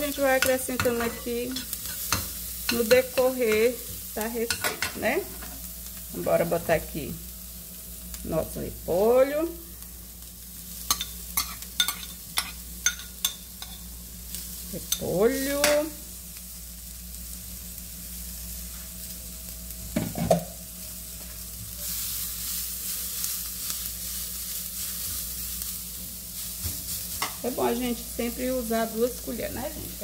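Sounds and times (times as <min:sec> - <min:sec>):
food sizzling in frying pan: 0:00.0 - 0:30.0.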